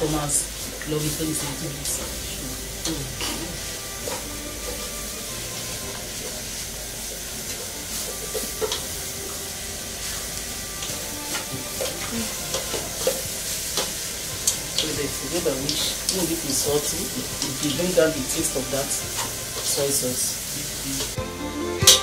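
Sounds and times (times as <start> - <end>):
vegetables sizzling in frying pan: 0.0 - 22.0
spoon scraping a pan: 0.5 - 21.2.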